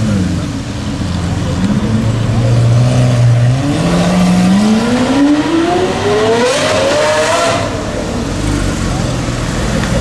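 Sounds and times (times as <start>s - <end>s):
sports car engine accelerating: 1.2s - 10.0s.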